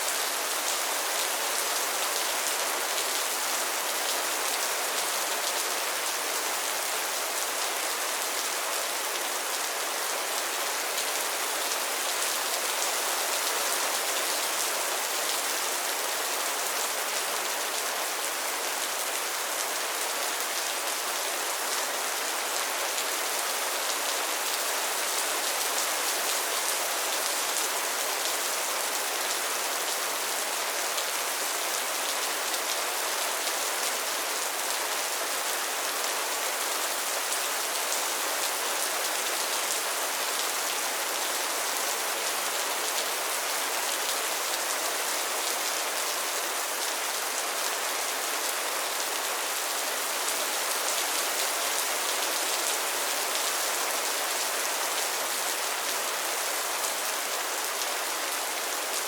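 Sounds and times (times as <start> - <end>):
rain falling on a pond: 0.0 - 59.0.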